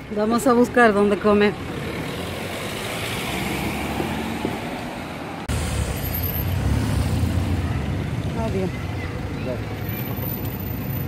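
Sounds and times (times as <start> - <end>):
deep traffic rumble: 0.0 - 11.0
passing vehicles: 0.0 - 11.0.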